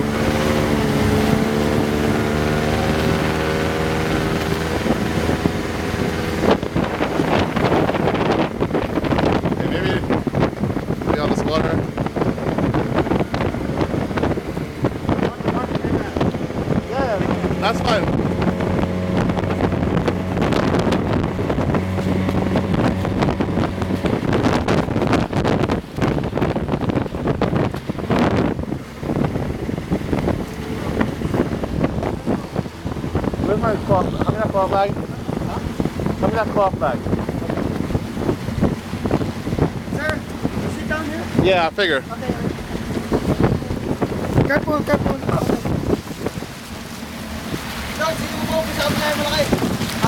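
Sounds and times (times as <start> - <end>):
motor engine running: 0.0 - 50.0
wind buffeting microphone: 0.0 - 50.0.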